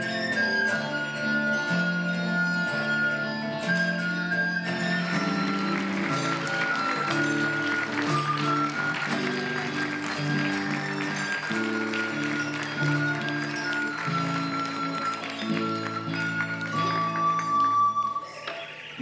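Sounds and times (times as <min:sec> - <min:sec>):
acoustic guitar: 0:00.0 - 0:19.0
xylophone melody: 0:00.0 - 0:19.0.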